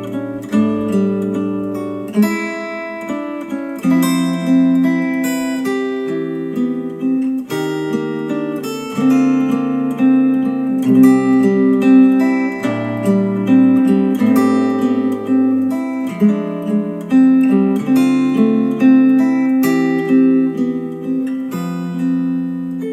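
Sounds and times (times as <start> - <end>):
strummed acoustic guitar music: 0.0 - 22.9.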